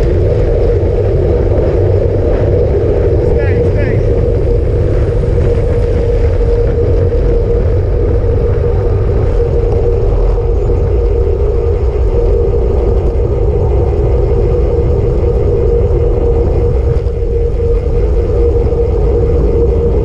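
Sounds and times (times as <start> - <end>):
bike tyre rumble: 0.0 - 20.0
wind rush: 0.0 - 20.0.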